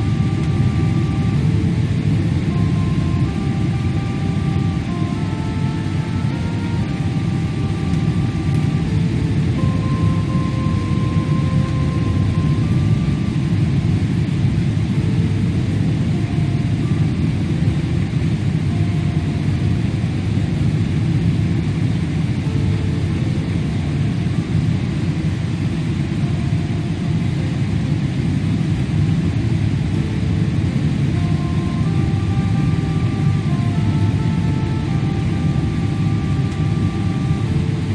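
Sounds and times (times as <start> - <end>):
jet airliner cabin rumble: 0.0 - 37.9.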